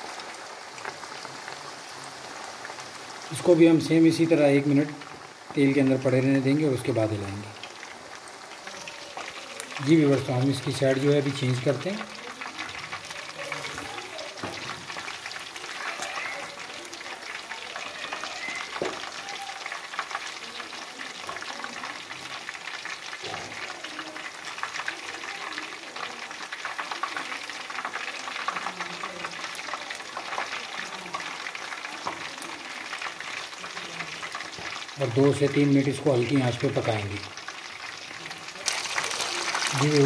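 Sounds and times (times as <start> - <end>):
chicken deep-frying in oil: 0.0 - 40.0.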